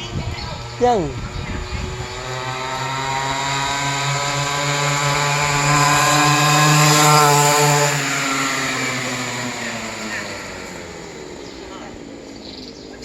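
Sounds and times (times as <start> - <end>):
mini bike engine passing: 0.0 - 13.0.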